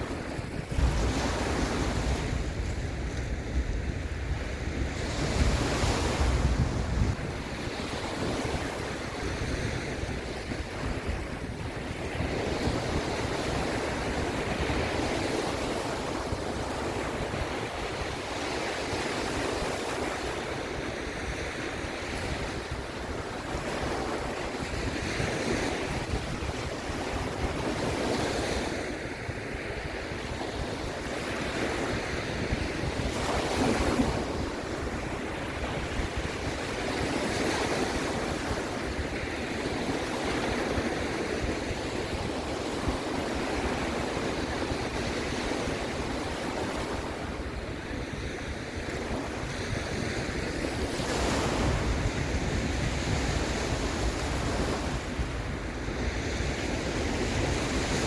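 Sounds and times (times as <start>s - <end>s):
sea waves breaking: 0.0s - 58.0s
wind gusting across microphone: 0.0s - 58.0s.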